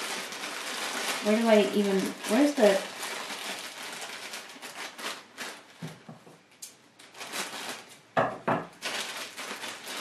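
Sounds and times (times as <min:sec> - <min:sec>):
plastic bag crinkling: 0:00.0 - 0:06.1, 0:06.7 - 0:10.0.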